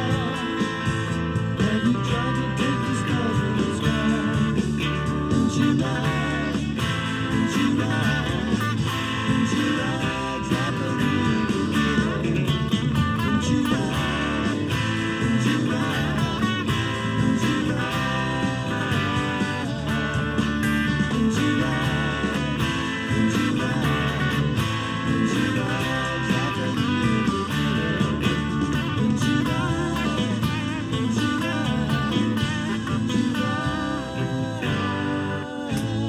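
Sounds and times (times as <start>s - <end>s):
blues-rock band playing: 0.0s - 36.0s
electric guitar lead lines: 0.0s - 36.0s.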